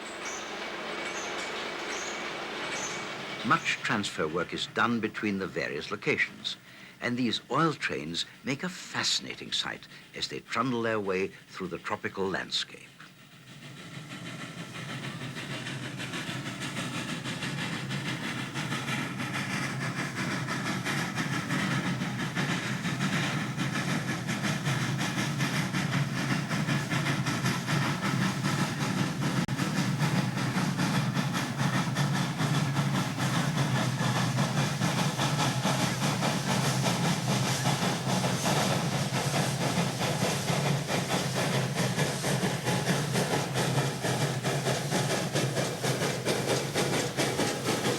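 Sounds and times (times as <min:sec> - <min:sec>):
steam locomotive working and hissing: 0:00.0 - 0:47.9.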